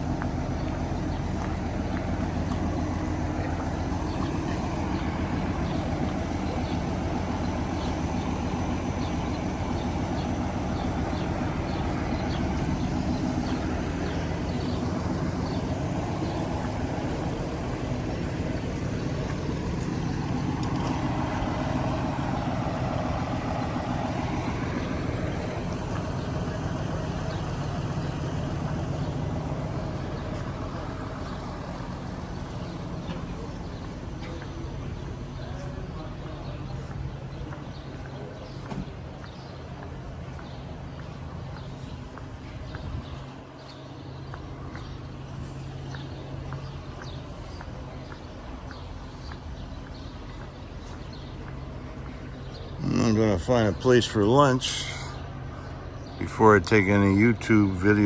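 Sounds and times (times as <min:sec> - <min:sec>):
large engine running: 0:00.0 - 0:58.0.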